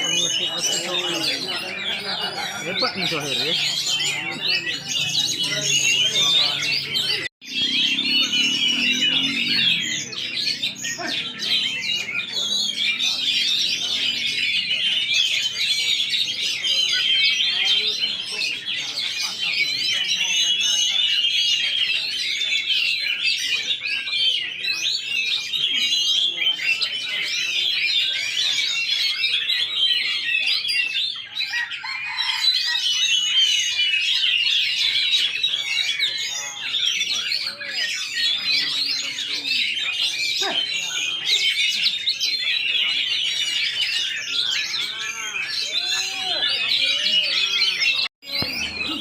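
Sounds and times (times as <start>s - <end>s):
songbirds chirping and whistling: 0.0s - 49.0s.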